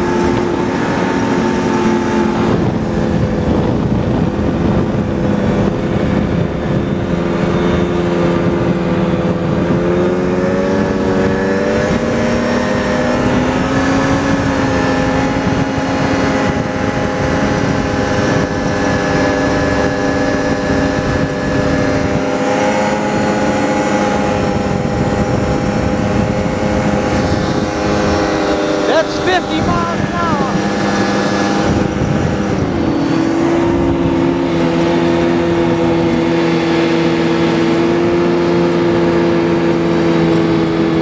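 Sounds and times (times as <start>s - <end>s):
snowmobile engine running: 0.0s - 41.0s.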